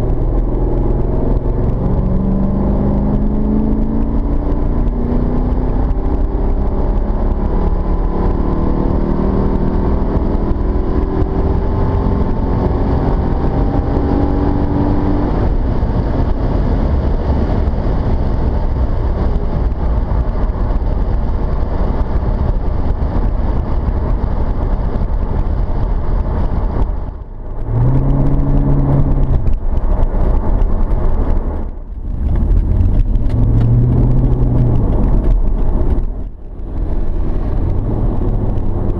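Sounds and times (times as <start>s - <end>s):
car engine from inside cabin: 0.0s - 38.9s
road noise: 0.0s - 38.9s.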